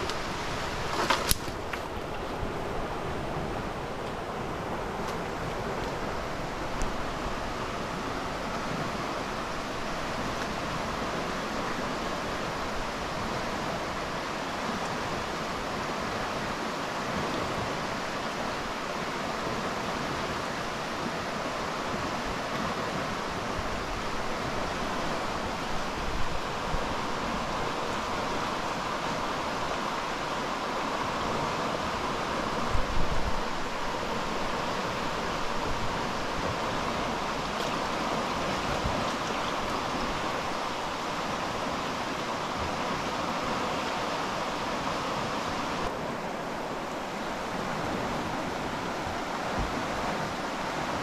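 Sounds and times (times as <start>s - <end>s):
stream water rushing: 0.0s - 51.0s.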